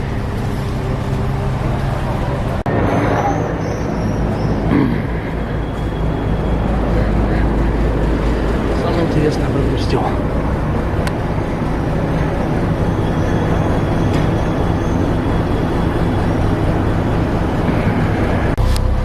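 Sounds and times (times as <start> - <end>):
heavy engine droning: 0.0 - 19.0.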